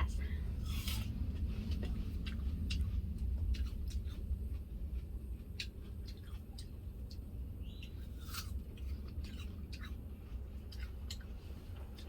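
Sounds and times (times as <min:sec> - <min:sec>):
steady low hum: 0:00.0 - 0:12.0
apple crunching: 0:00.5 - 0:12.0.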